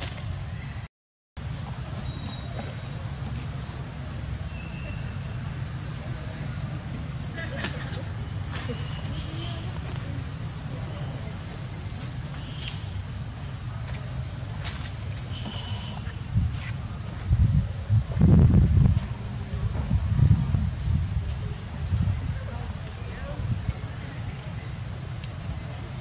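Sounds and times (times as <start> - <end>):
high-pitched insect drone: 1.4 - 26.0
low rumbling noise: 1.4 - 26.0.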